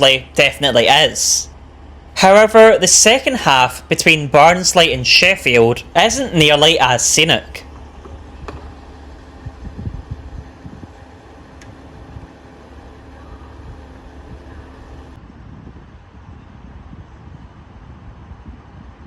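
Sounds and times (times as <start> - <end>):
train engine drone: 0.0 - 19.0.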